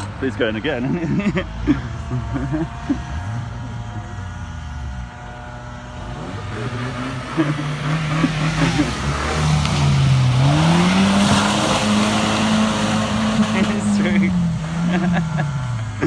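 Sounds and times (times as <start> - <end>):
car engine revving hard: 0.0 - 16.0.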